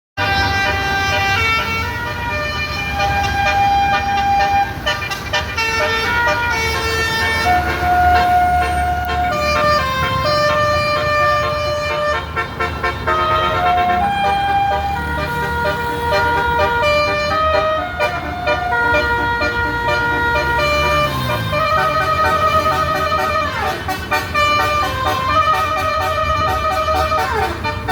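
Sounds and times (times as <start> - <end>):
bus engine hum: 0.2 - 27.9
multi-tone bus horn playing tunes: 0.2 - 27.9.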